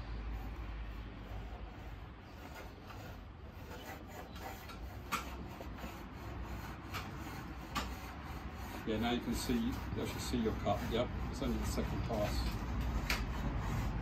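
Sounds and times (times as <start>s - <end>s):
block plane shaving wood: 0.2s - 14.0s.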